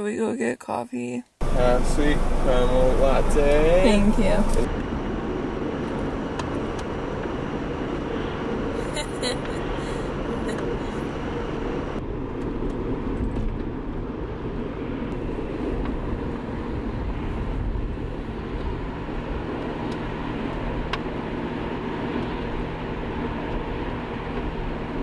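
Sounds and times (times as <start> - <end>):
car engine rumble: 1.4 - 25.0
road noise: 1.4 - 25.0.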